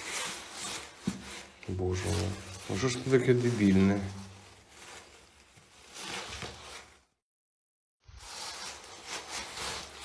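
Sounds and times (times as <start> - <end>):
cat litter rustling and scraping: 0.0 - 7.0, 8.1 - 10.0.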